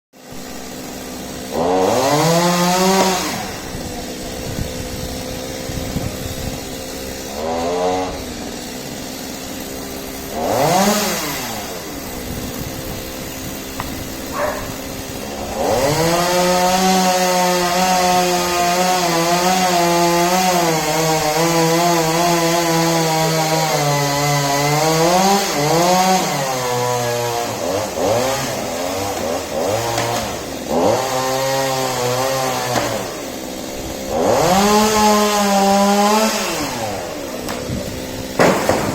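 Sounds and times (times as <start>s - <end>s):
chainsaw revving and idling: 0.2s - 38.9s.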